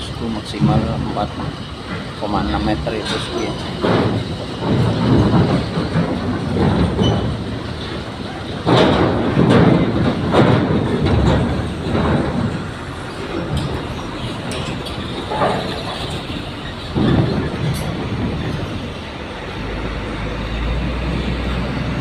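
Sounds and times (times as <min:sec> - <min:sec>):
diesel engines running: 0:00.0 - 0:22.0
wheels clanking on steel deck: 0:00.0 - 0:22.0.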